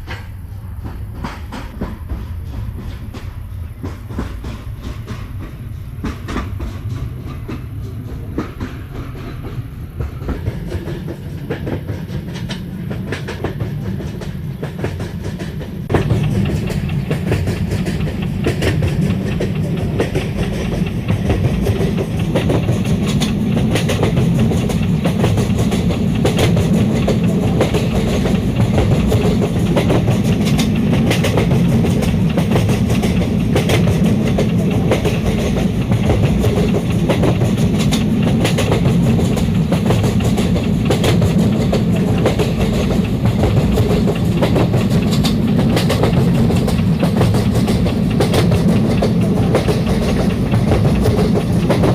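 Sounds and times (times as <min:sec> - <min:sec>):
diesel train rumble: 0:00.0 - 0:51.9
sharp clicks and clatters: 0:10.1 - 0:51.9.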